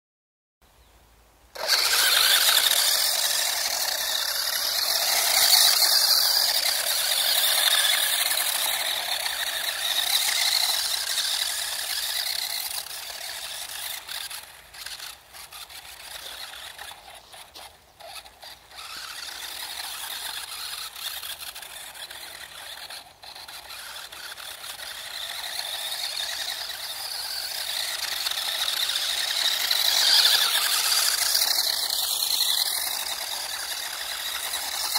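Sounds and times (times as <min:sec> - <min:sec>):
electric rc car whining: 0:01.5 - 0:34.9.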